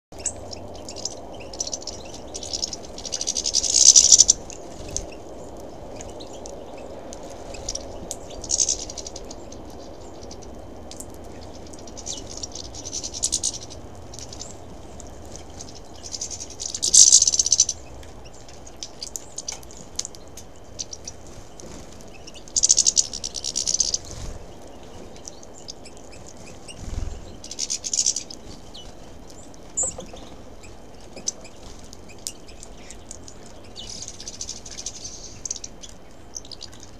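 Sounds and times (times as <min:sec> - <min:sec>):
birds pecking at seed: 0:00.2 - 0:36.9
finches twittering: 0:00.2 - 0:36.9.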